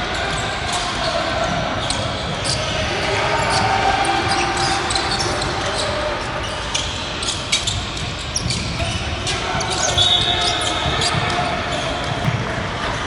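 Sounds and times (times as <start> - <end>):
shoe squeaks: 0.2 - 12.2.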